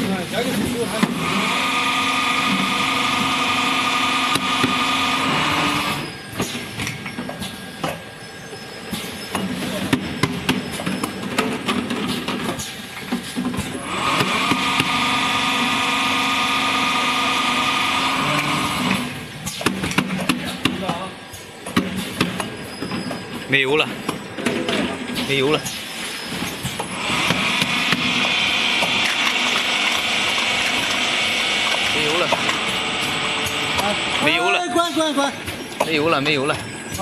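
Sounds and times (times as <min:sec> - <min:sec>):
machine whine: 0:00.0 - 0:19.3, 0:22.4 - 0:37.0.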